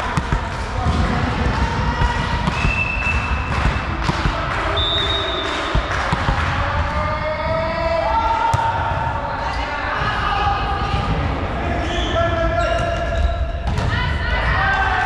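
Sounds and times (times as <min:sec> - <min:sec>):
balls bouncing on hall floor: 0:00.0 - 0:11.5, 0:12.3 - 0:14.5.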